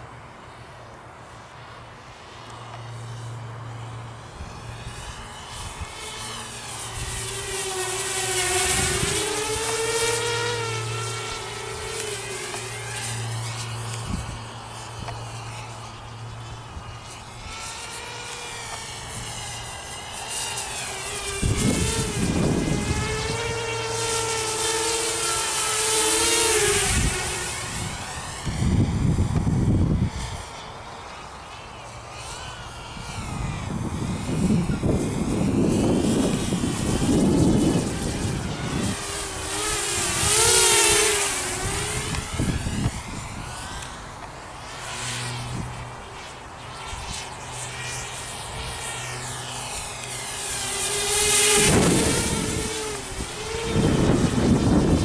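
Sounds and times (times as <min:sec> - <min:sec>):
quadcopter propellers whining: 0:00.0 - 0:55.0.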